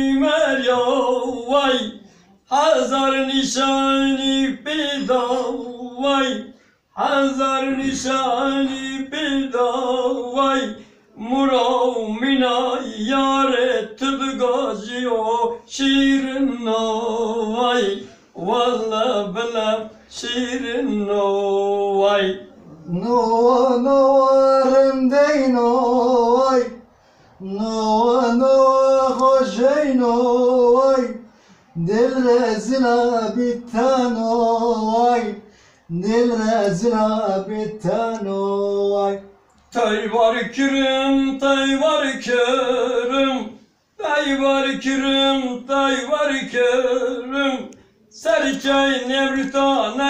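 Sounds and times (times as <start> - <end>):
man singing unaccompanied: 0.0 - 50.0.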